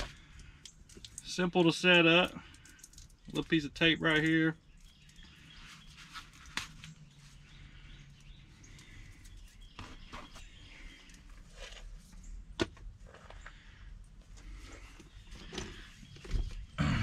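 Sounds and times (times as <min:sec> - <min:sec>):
plastic tubing rustling: 0:00.0 - 0:16.8
faint birdsong: 0:00.0 - 0:17.0.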